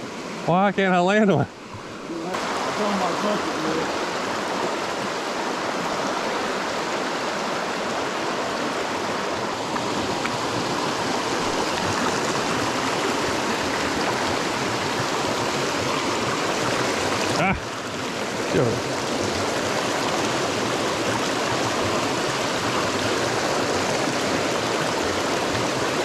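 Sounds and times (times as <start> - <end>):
brook running over rocks: 0.3 - 26.0.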